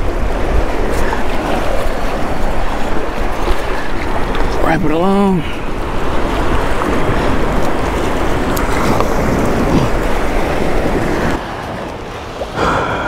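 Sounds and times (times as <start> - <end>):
waves washing around pier: 0.0 - 13.0
wind: 0.0 - 13.0.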